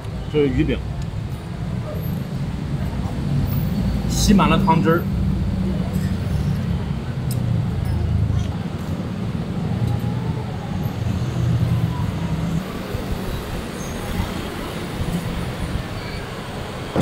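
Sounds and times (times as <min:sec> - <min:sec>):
low rumble of road traffic: 0:00.0 - 0:17.0
outdoor street noise: 0:00.0 - 0:17.0.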